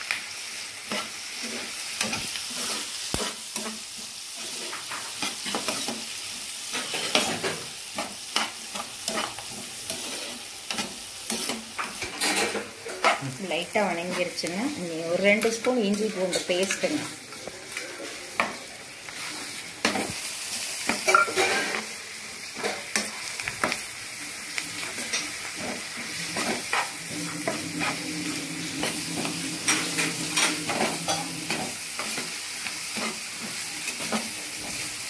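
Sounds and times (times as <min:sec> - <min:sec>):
onions sizzling in oil: 0:00.0 - 0:35.0
spatula scraping a pan: 0:00.8 - 0:23.8, 0:24.4 - 0:35.0.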